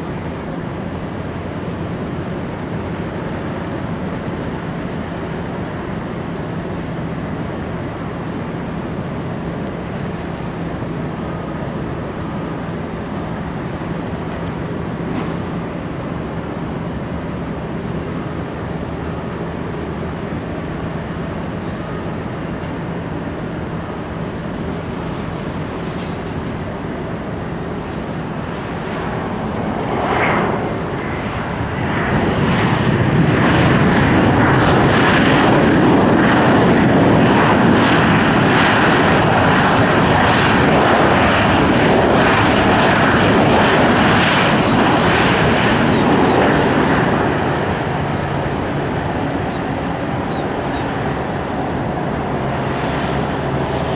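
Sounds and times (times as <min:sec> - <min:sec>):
jet airliner engine noise: 0:00.0 - 0:53.9.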